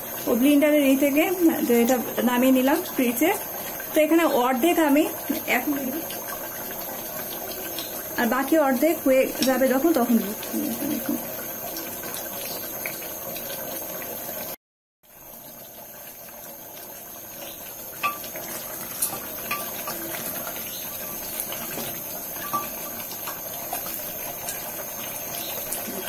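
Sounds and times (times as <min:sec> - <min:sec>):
pot simmering with steady hiss: 0:00.0 - 0:26.0.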